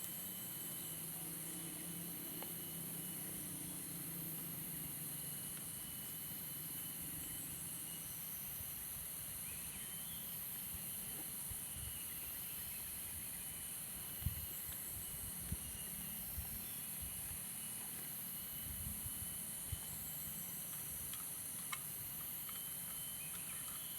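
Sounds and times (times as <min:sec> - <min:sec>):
outdoor campsite hiss: 0:00.0 - 0:23.9.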